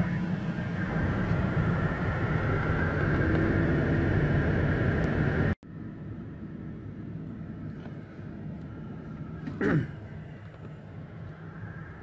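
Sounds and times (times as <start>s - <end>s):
quieter drone: 0.0s - 12.0s.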